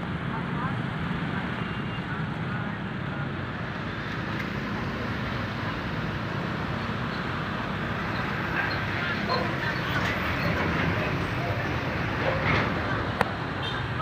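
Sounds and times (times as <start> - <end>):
vehicle traffic rumble: 0.0 - 14.0.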